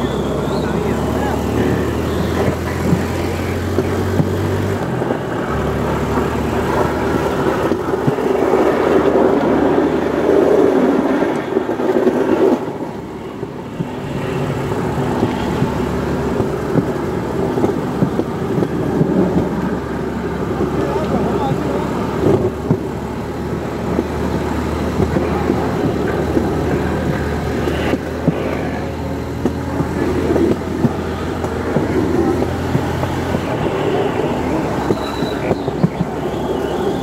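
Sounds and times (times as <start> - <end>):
engine hum: 0.0 - 37.0
rail trolley rolling noise: 0.0 - 37.0.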